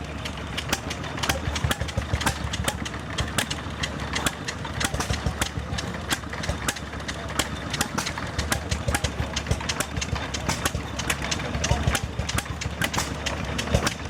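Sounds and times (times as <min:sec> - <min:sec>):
engine idling unevenly: 0:00.0 - 0:14.0.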